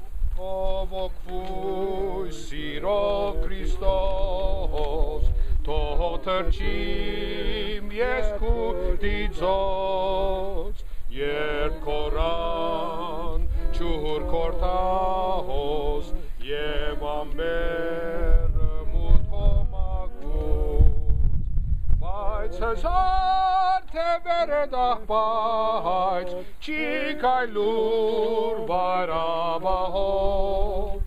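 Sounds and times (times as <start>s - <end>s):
group singing a hymn unaccompanied: 0.0s - 21.4s, 22.0s - 31.0s
low rumble on microphone: 0.0s - 31.0s.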